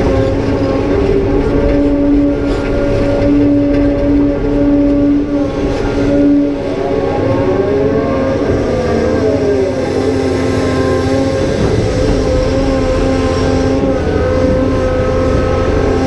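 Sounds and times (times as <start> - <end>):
excavator diesel engine under load: 0.0 - 16.0
hydraulic whining tones: 0.0 - 16.0.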